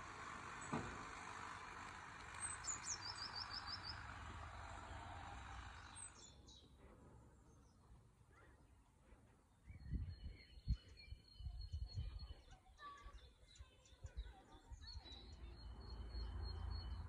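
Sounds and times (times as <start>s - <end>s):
small birds singing: 1.5s - 17.0s.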